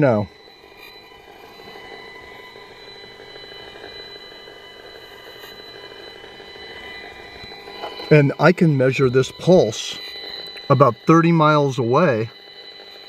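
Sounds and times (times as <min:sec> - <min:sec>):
steady high electronic tone: 0:00.0 - 0:13.0.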